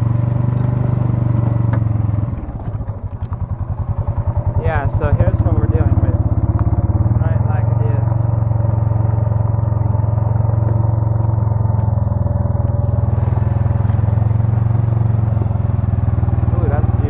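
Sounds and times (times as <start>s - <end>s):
quad engine droning: 0.0s - 17.0s.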